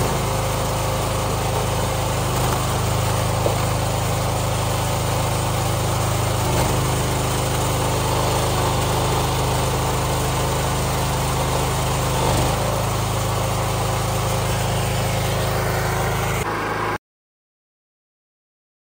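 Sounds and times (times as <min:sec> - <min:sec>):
small gasoline engine running: 0:00.0 - 0:17.0.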